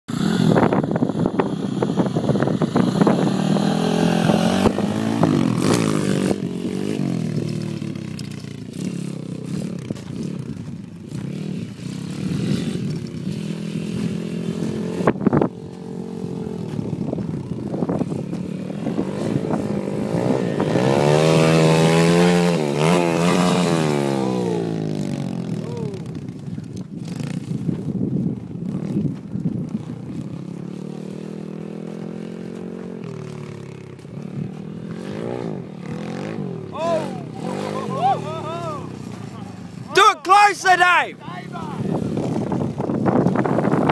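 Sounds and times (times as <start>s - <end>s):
pit bike engine revving: 0.1s - 27.9s, 28.5s - 40.3s, 40.9s - 43.9s.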